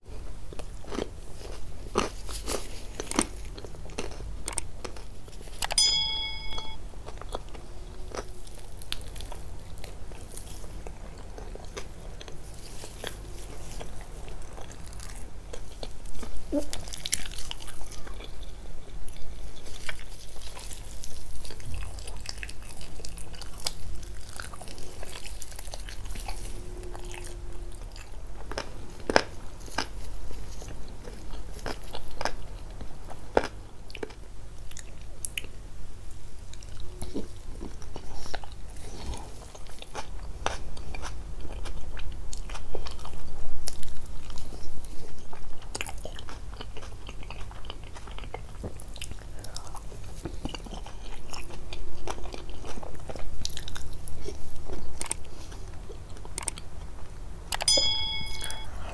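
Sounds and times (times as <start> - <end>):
chewing and biting food: 0.1 - 5.7, 7.1 - 35.6, 36.4 - 57.7.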